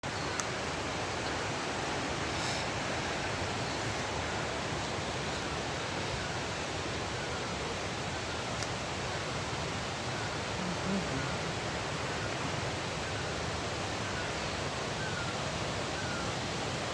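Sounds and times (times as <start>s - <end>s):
flowing water rushing: 0.0s - 16.9s.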